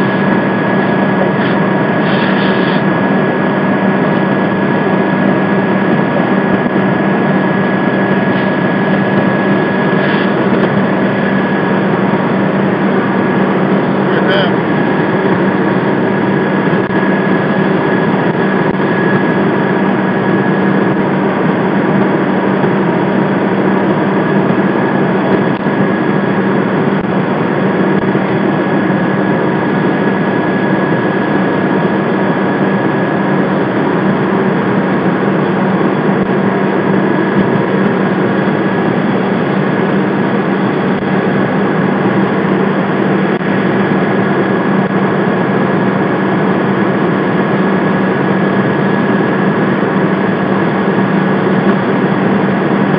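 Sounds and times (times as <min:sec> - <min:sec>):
diesel engine and pump running: 0:00.0 - 0:52.9.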